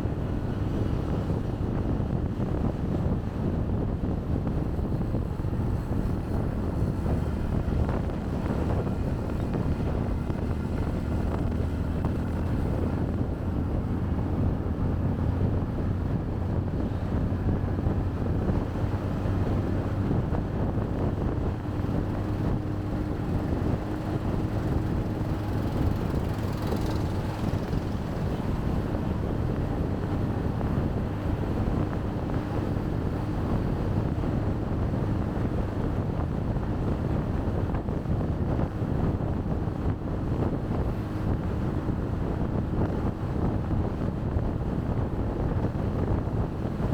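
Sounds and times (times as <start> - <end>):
street traffic: 0.0 - 46.9
wind noise on microphone: 0.0 - 46.9
motorcycle engine running: 4.0 - 46.8.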